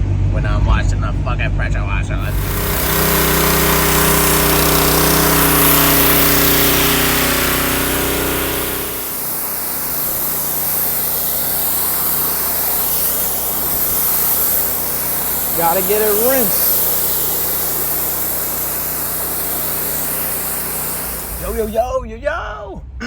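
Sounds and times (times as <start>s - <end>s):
pressure washer engine hum: 2.2s - 21.8s
water spray hissing: 2.2s - 21.8s.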